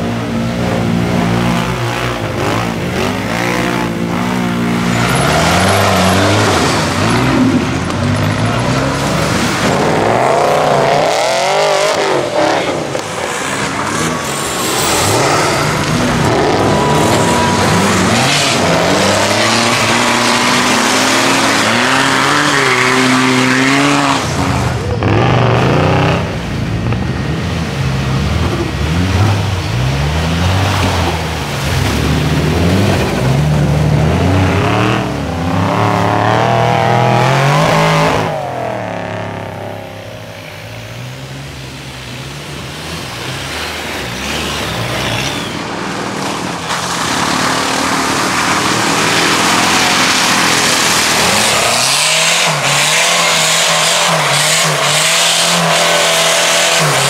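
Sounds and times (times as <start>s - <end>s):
off-road engines revving: 0.0s - 57.0s
steady rushing engine noise: 0.0s - 57.0s
wheels churning through mud: 0.0s - 57.0s.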